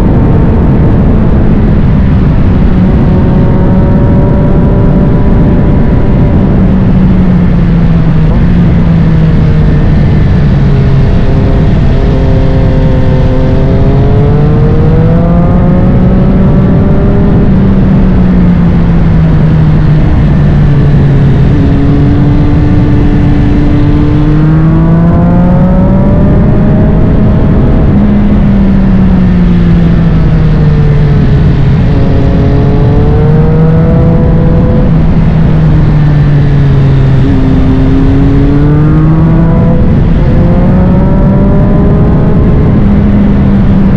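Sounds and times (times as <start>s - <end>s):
motorcycle engine revving: 0.0s - 43.9s
steady rushing noise: 0.0s - 43.9s.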